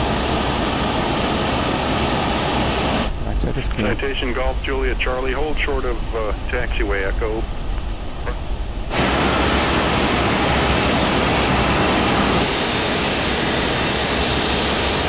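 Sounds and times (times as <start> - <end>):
airliner jet engines taxiing: 0.0 - 15.0.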